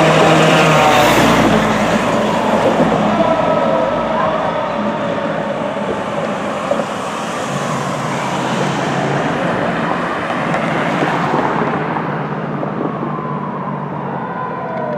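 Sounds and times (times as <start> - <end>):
faint siren wailing: 0.0 - 10.7, 11.6 - 14.9
diesel engines running: 0.0 - 14.9
road noise rumble: 0.0 - 14.9.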